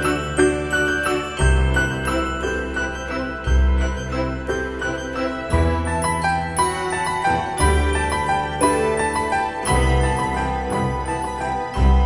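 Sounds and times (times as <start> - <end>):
background music melody: 0.0 - 12.0.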